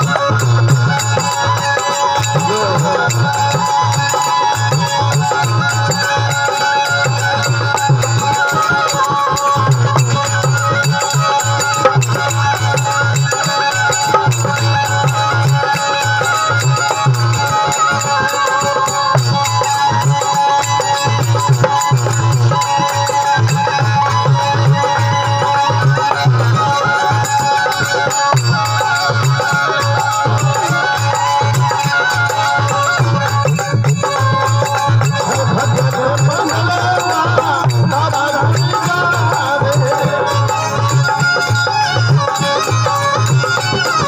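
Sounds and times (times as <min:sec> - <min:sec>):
hand drum rhythm: 0:00.0 - 0:44.0.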